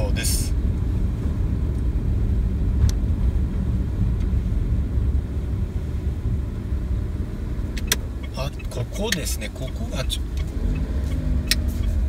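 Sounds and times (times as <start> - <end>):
car driving heard from inside: 0.0 - 12.0.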